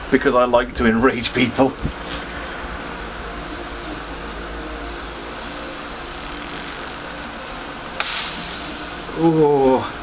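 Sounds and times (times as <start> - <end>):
steady hum: 0.0 - 10.0
plastic film peeling off: 1.9 - 10.0.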